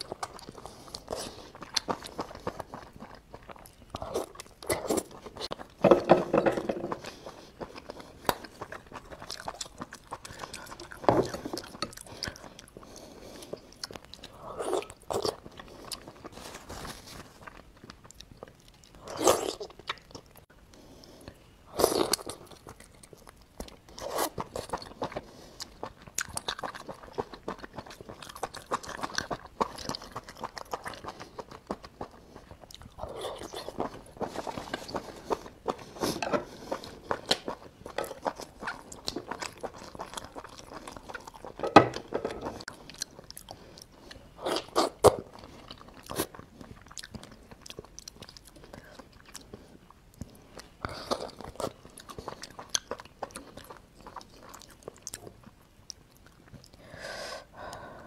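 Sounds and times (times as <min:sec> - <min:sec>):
person chewing crunchily: 0:00.0 - 0:20.5, 0:21.2 - 0:56.8.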